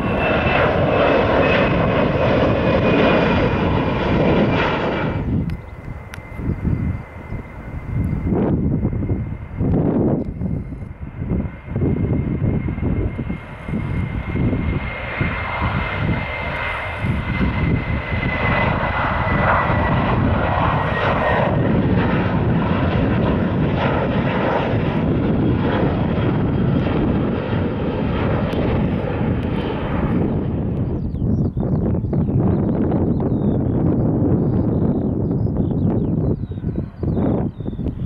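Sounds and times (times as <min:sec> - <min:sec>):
jet engines at takeoff: 0:00.0 - 0:38.0.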